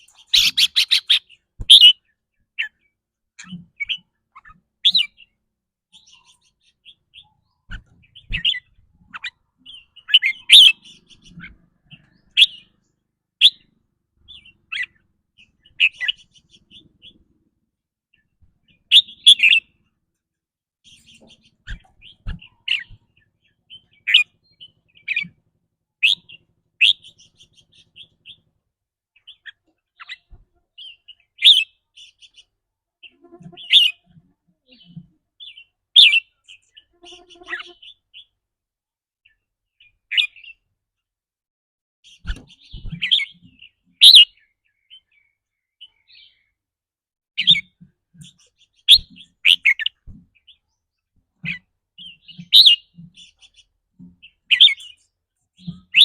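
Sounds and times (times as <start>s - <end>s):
bird chirping: 0.0s - 17.4s, 18.1s - 19.9s, 20.8s - 25.4s, 26.0s - 28.5s, 29.2s - 38.4s, 39.2s - 40.7s, 42.0s - 46.6s, 47.4s - 56.0s.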